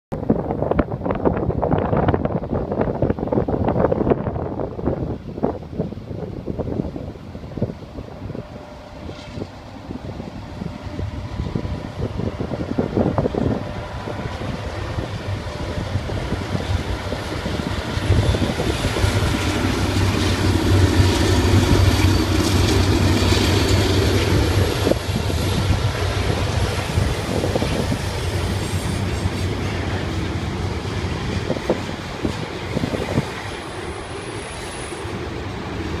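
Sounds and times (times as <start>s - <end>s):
locomotive engine drone: 6.3s - 36.0s.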